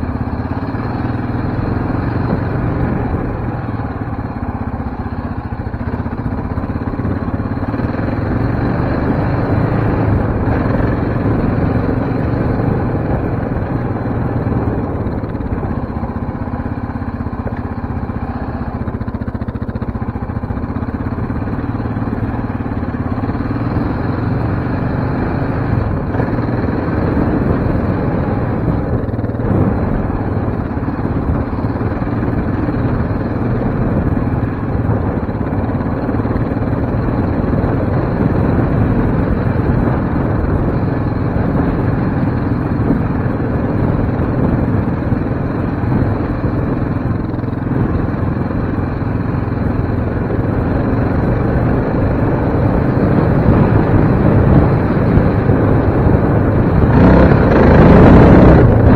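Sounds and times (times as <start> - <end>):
quad bike engine running: 0.0 - 58.9.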